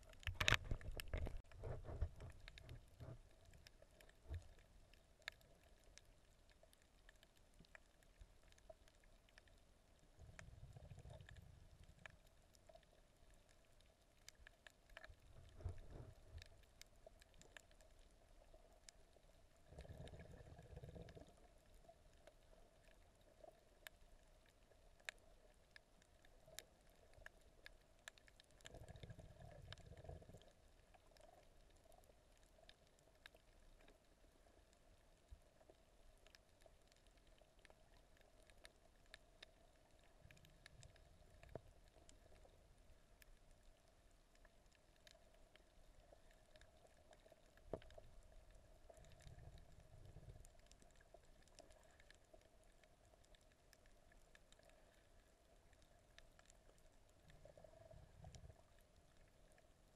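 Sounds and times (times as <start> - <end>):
faint steady hum: 0.0 - 59.9
faint underwater clicks: 0.0 - 59.9
muffled water movement: 0.0 - 59.9.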